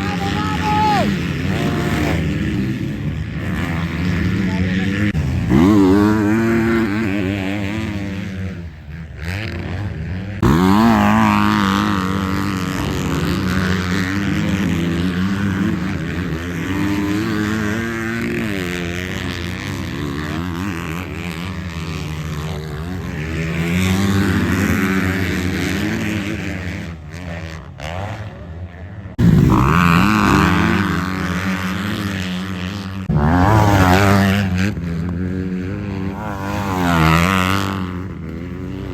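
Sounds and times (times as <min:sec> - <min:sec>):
motocross bikes revving: 0:00.0 - 0:38.9.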